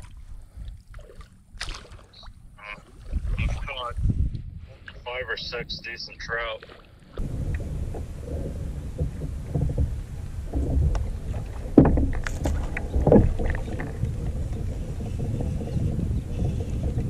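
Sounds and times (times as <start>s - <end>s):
water rumbling against hull: 0.0s - 17.0s.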